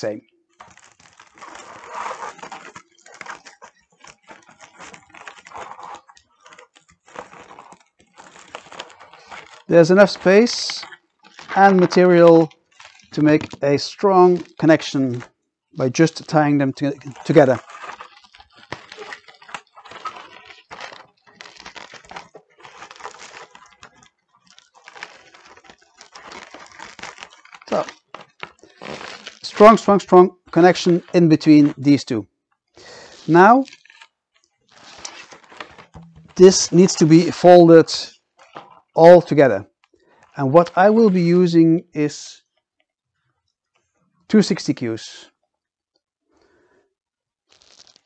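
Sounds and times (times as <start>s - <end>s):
balloons rustling: 0.0s - 41.6s, 46.2s - 48.0s
foil balloons crinkling: 0.0s - 42.6s, 47.4s - 48.0s.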